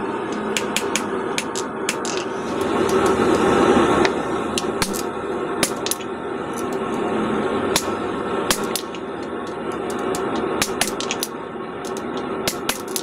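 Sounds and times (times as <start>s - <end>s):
steady rushing noise: 0.0s - 12.7s.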